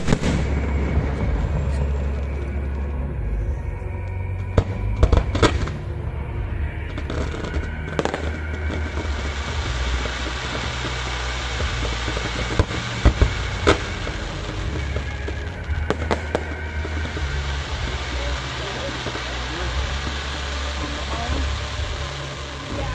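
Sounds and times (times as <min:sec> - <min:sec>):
fireworks banging: 0:00.0 - 0:22.9
music: 0:00.0 - 0:22.9.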